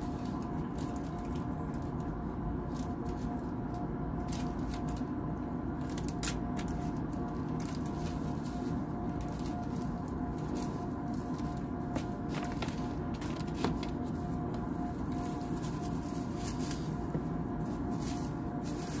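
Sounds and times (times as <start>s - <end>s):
plastic packet crackling: 0.0s - 19.0s
steady background hum: 0.0s - 19.0s.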